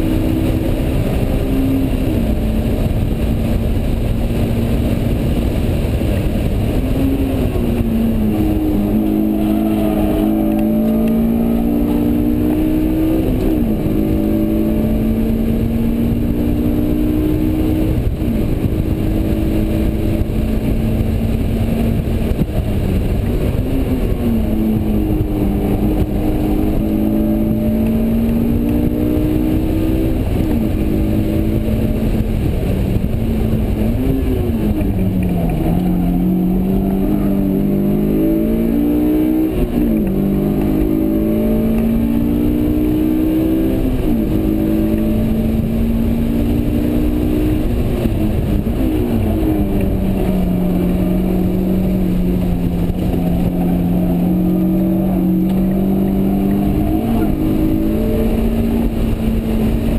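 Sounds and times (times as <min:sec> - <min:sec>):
car engine revving: 0:00.0 - 0:59.9
tyre and wind noise: 0:00.0 - 0:59.9.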